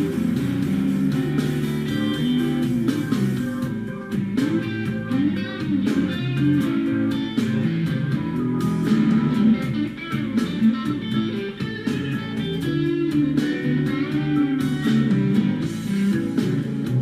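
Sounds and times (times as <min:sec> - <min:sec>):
plucked bluesy guitar: 0:00.0 - 0:17.0.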